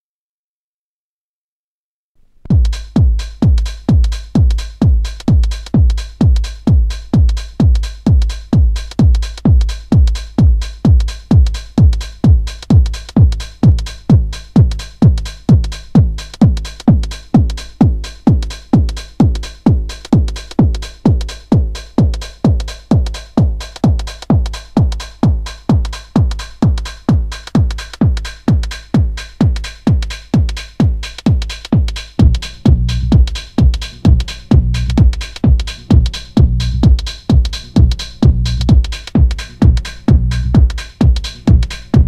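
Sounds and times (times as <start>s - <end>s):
drum machine kick drum: 2.4s - 42.0s.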